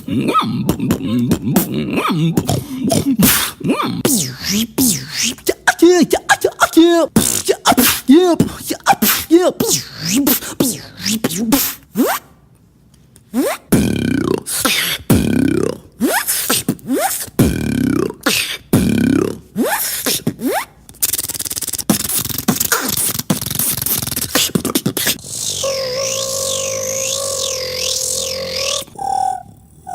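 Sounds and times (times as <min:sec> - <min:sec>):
person beatboxing: 0:00.0 - 0:12.2, 0:13.3 - 0:29.9.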